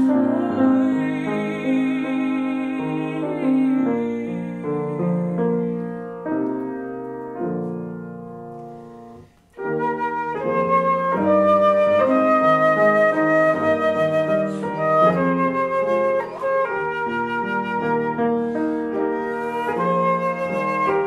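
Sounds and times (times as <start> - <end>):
flute melody: 0.0 - 21.0
grand piano chords: 0.0 - 21.0.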